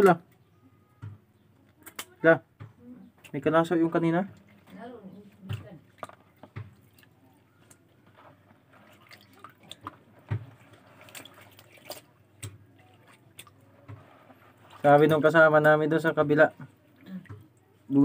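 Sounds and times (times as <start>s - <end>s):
water dripping and splashing: 3.2s - 18.0s.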